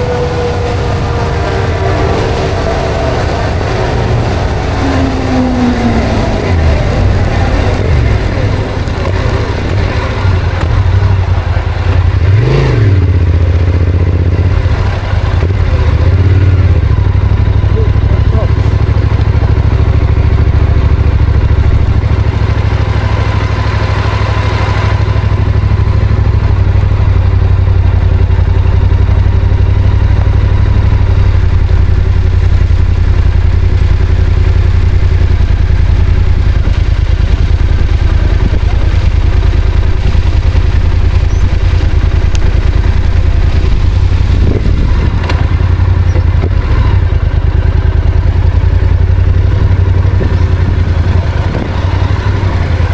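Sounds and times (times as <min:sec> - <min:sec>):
motorcycle engine droning: 0:00.0 - 0:52.9.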